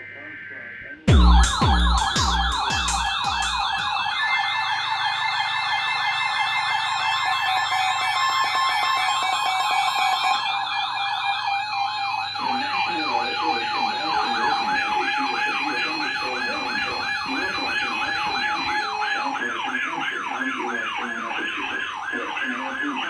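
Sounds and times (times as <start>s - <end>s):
electronic sirens yelping: 0.0s - 23.0s.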